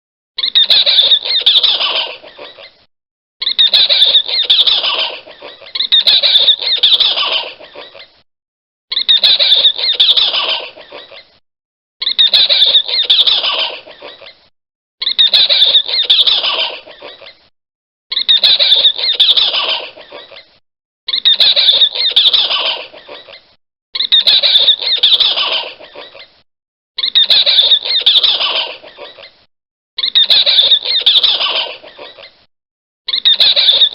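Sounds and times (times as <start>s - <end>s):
monkey screaming: 0.4s - 2.8s, 3.4s - 8.2s, 8.9s - 11.3s, 12.0s - 14.4s, 15.0s - 17.5s, 18.1s - 26.4s, 27.0s - 29.4s, 30.0s - 32.4s, 33.1s - 33.9s.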